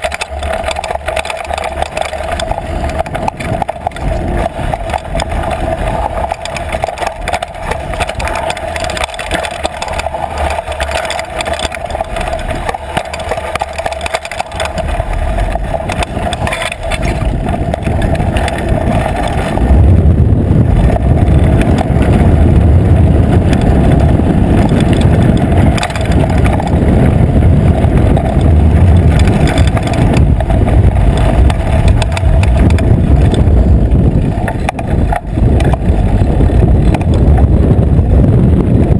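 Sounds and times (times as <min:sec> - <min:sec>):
bike rattling over bumps: 0:00.0 - 0:38.9
bike tyres on dirt trail: 0:00.0 - 0:38.9
wind rumble on microphone: 0:00.0 - 0:38.9.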